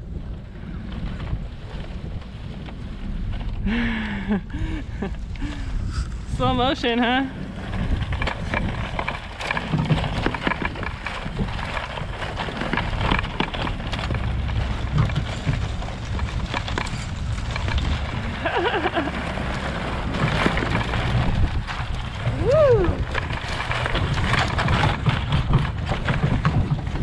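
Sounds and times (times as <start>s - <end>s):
fence drag rattling over ground: 0.0s - 27.0s
towing vehicle rumble: 0.0s - 27.0s.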